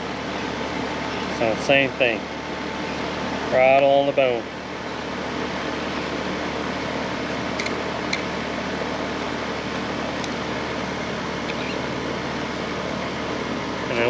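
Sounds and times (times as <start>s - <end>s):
machine hum with rushing noise: 0.0s - 14.0s.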